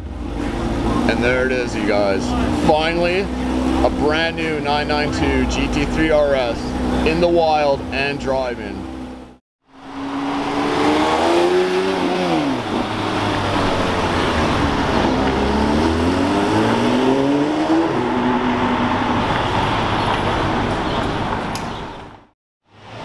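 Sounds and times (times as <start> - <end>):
sports car engine passing: 0.0 - 21.5.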